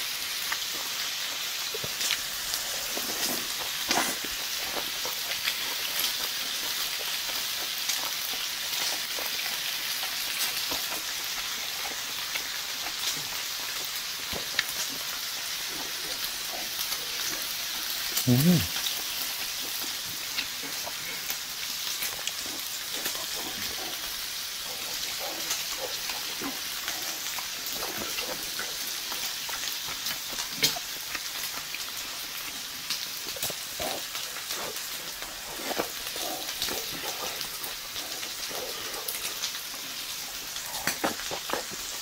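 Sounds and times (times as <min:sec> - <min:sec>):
close chewing: 0:00.0 - 0:42.0
pork sizzling on grill: 0:00.0 - 0:42.0.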